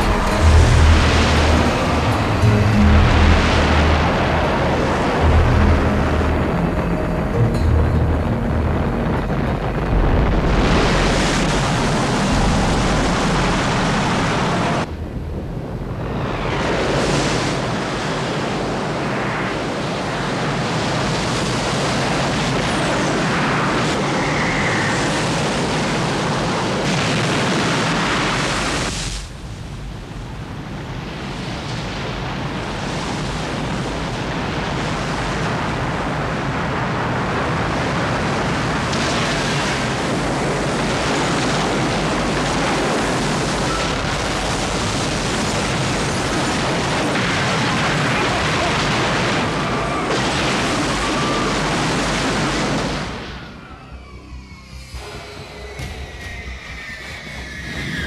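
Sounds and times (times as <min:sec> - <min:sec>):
ocean wave rushing: 0:00.0 - 0:29.4, 0:31.1 - 0:58.0.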